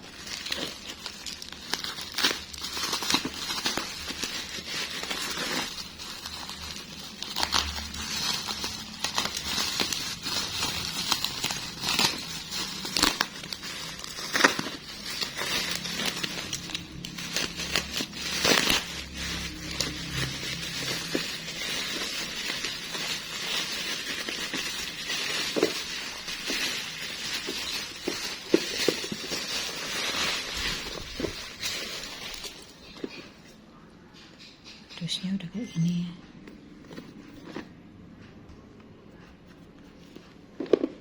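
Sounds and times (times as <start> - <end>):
plastic packaging crinkling: 0.0 - 33.5.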